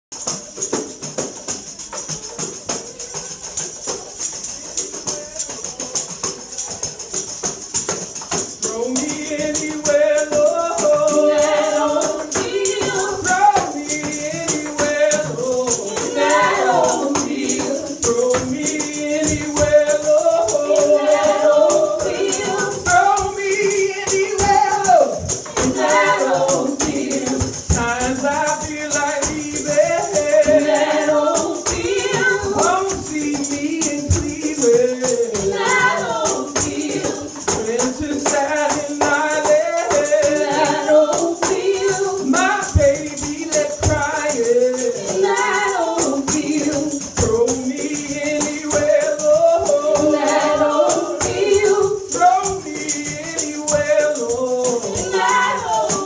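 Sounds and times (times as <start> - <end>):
tambourines shaken and struck: 0.1 - 56.0
voices singing in harmony: 1.8 - 56.0.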